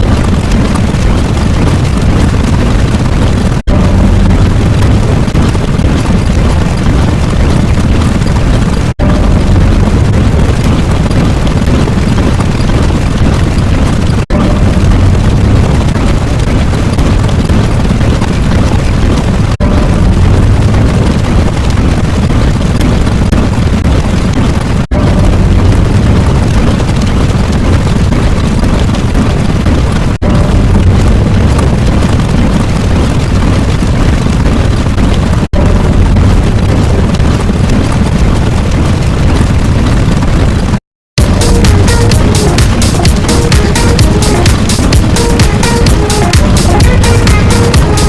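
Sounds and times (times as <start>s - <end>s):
rumbling explosion: 0.0s - 48.0s.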